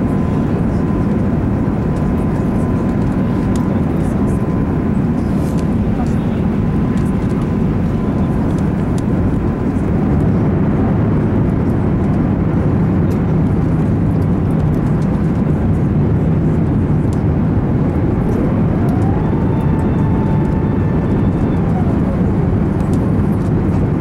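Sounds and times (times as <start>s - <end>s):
airplane cabin roar: 0.0s - 24.0s.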